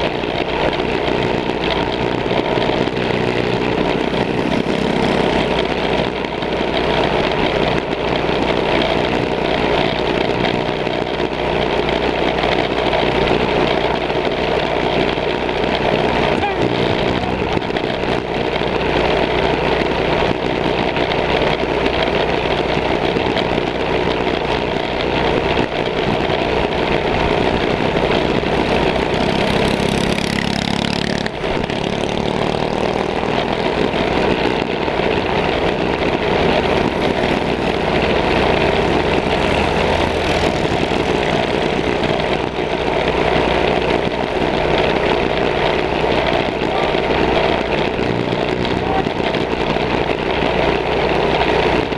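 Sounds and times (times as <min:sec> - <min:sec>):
mini bike engines running: 0:00.0 - 0:51.9.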